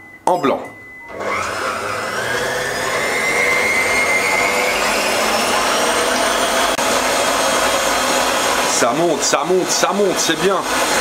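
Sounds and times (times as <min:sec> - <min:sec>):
stand mixer whisking egg whites: 0:01.1 - 0:11.0.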